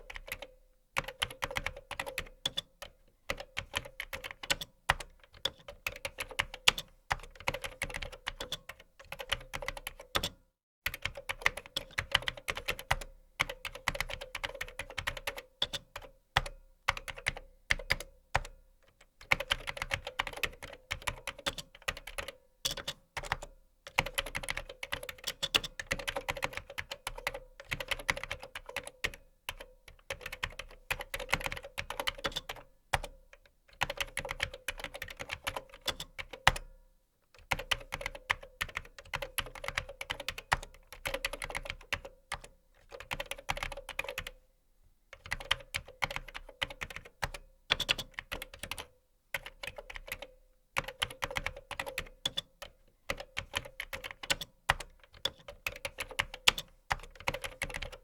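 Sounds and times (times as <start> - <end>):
computer keyboard typing: 0.0 - 18.5, 19.2 - 33.2, 33.8 - 36.7, 37.4 - 44.4, 45.2 - 58.0.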